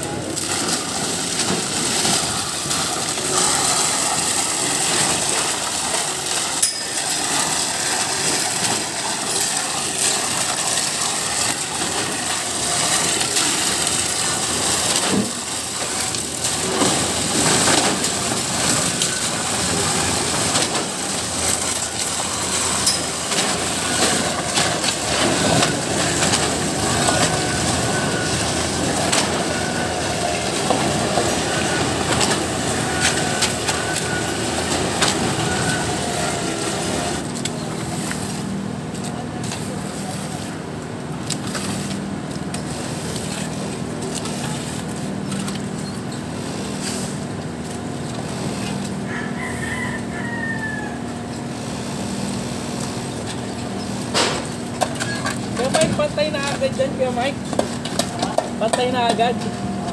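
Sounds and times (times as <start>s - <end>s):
concrete pump running: 0.0s - 59.9s
wet concrete pouring: 0.0s - 59.9s.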